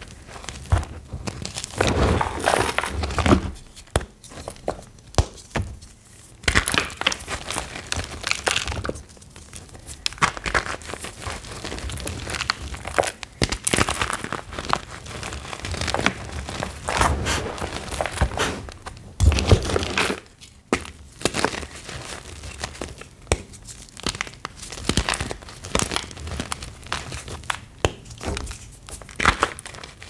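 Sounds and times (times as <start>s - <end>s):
chalk blocks crunching by hand: 0.0s - 5.8s, 9.8s - 30.0s.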